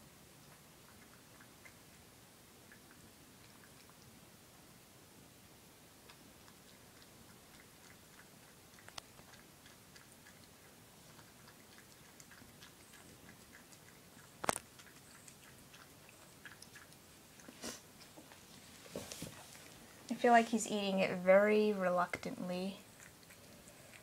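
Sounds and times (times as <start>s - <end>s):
cat chewing food: 0.4s - 4.4s, 5.9s - 20.1s, 22.8s - 24.0s.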